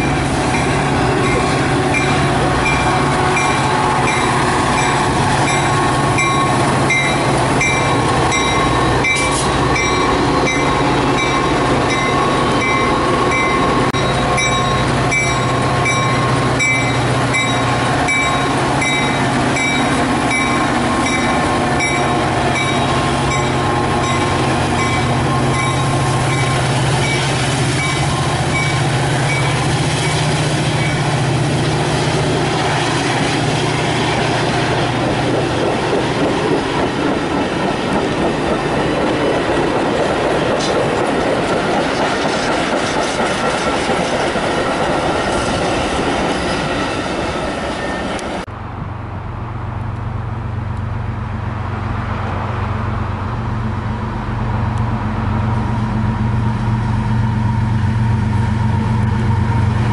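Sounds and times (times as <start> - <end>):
train wheels clicking on rails: 0.0 - 48.5
locomotive engine drone: 0.0 - 59.9.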